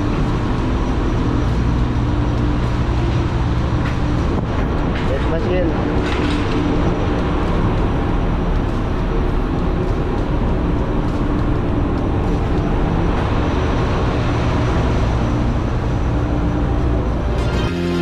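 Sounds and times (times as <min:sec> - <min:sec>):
engine-room machinery drone: 0:00.0 - 0:18.0.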